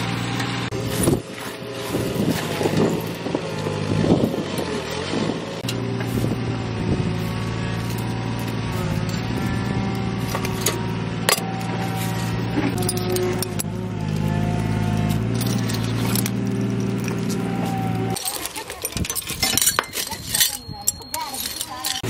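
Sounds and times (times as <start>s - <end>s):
engine-like hum: 0.0s - 22.0s.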